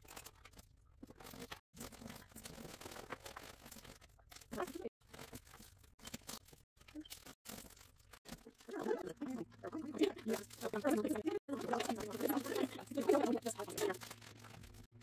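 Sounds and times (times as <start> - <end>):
paper and plastic rustling: 0.0 - 15.0.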